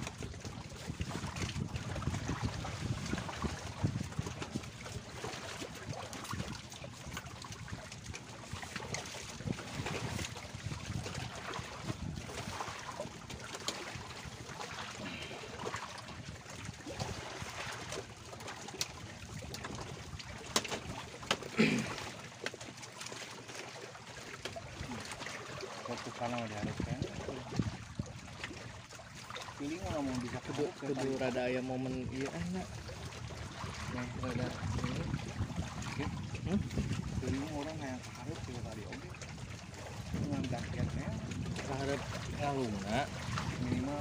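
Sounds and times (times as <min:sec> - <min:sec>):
water lapping against raft: 0:00.0 - 0:44.0.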